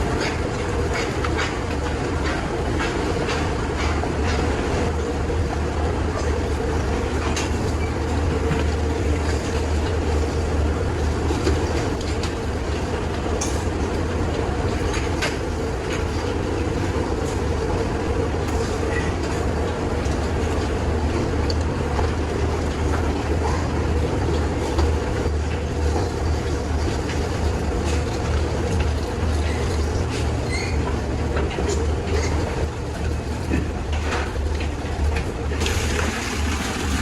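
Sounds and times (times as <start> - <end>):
constant hum: 0.0 - 37.0
low mechanical rumble: 0.0 - 37.0.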